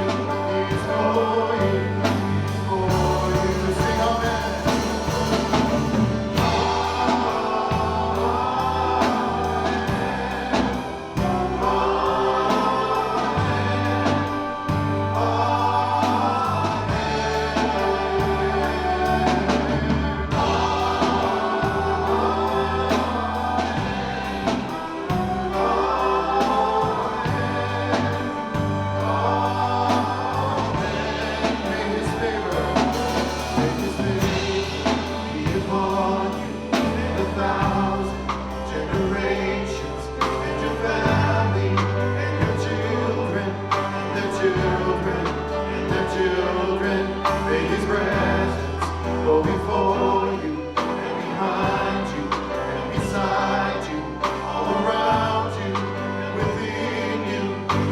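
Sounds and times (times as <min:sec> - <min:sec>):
instrumental accompaniment: 0:00.0 - 0:57.9
voices singing together: 0:00.0 - 0:57.9.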